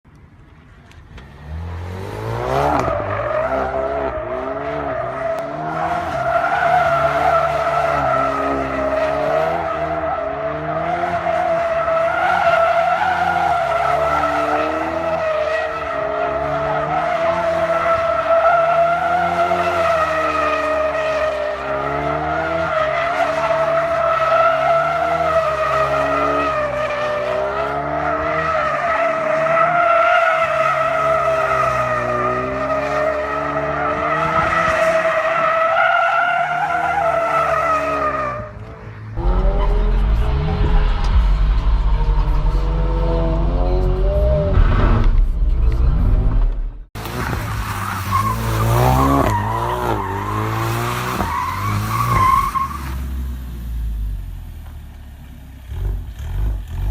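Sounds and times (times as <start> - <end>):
car engine revving: 1.1 - 35.7, 36.5 - 53.4.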